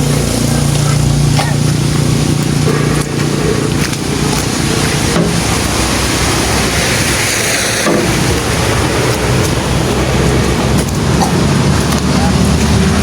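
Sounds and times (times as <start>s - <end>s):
loud rushing noise: 0.0s - 13.0s
vehicle engine running: 0.0s - 13.0s.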